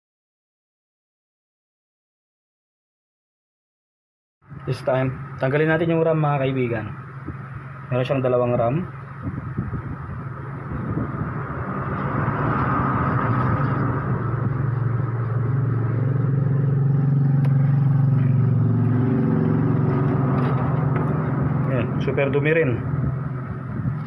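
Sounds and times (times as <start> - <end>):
engine humming with hiss: 4.5 - 24.0.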